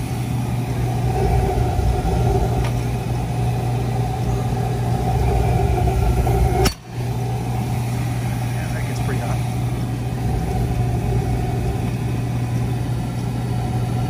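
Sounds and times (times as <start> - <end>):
low hum: 0.0 - 14.0
oil burner roaring: 0.0 - 14.0.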